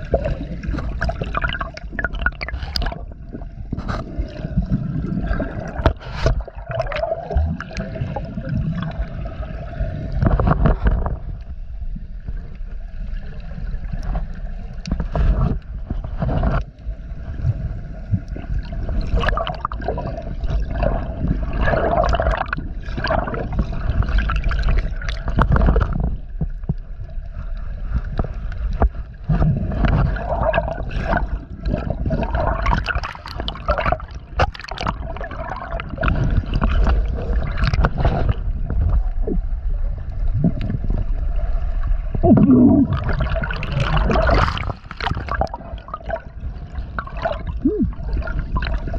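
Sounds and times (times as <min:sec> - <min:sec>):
constant low rumble: 0:00.0 - 0:48.9
water sloshing and bubbling: 0:00.0 - 0:48.9.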